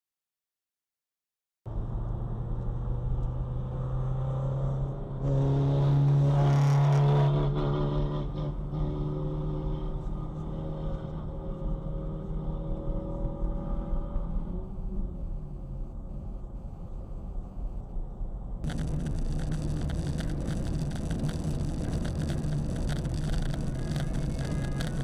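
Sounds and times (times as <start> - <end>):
car engine hum: 1.7 - 25.0
cars passing: 1.7 - 25.0
tyre and road noise: 1.7 - 25.0.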